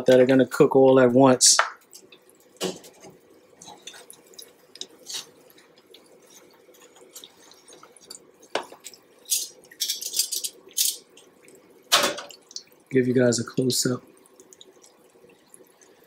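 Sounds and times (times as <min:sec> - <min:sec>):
food frying in hot oil: 0:00.0 - 0:16.0.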